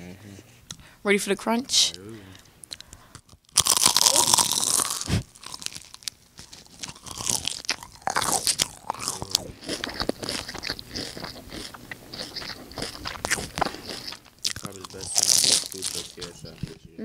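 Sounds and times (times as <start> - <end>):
crunchy food being chewed: 2.6 - 16.8.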